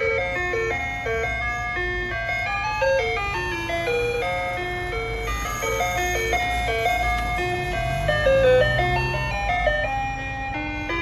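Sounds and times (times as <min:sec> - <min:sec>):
ice cream truck chime melody: 0:00.0 - 0:11.0.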